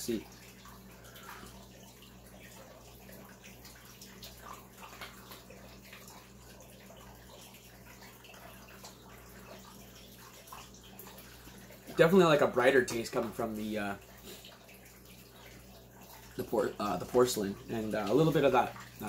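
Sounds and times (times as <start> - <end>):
low electrical hum: 0.0 - 19.0
water trickling: 0.0 - 19.0.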